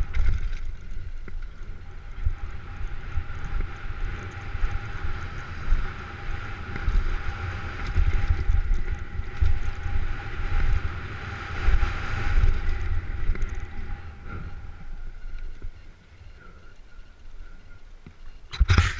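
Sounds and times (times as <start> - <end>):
faint steady whine: 0.0 - 18.9
wind buffeting microphone: 0.0 - 18.9.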